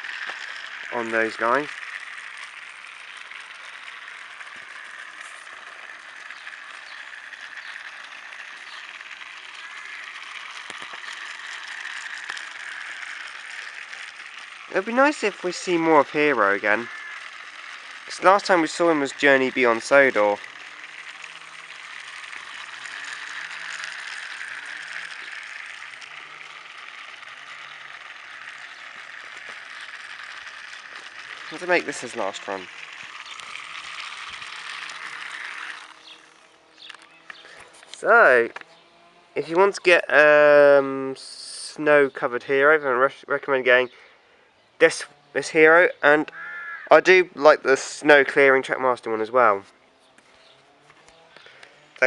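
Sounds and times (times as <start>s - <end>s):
toy train motor whirring rattle: 0.0s - 52.0s.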